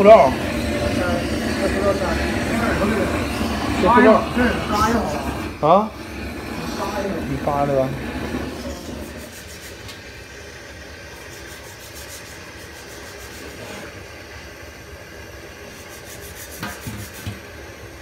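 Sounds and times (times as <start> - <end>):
blowtorch flame hissing: 0.0 - 18.0.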